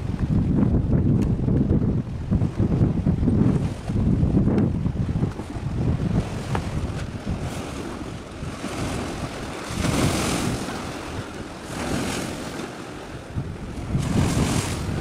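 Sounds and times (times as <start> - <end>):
wind buffeting microphone: 0.0 - 15.0
sea waves: 2.1 - 15.0.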